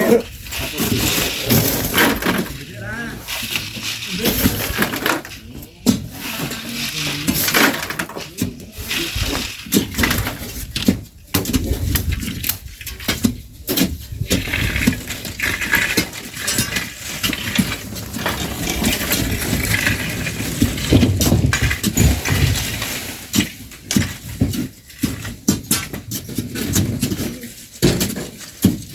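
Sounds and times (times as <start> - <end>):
shovels scraping sand and grit: 0.0 - 28.9.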